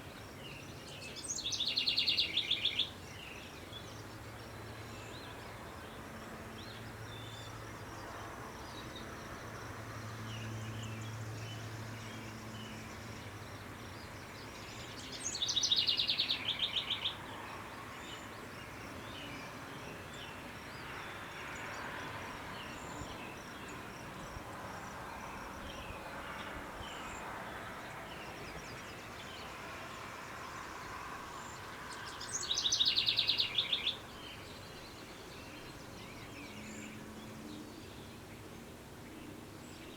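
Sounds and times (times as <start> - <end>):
outdoor background hiss: 0.0 - 39.9
songbird singing a trill: 0.0 - 39.9.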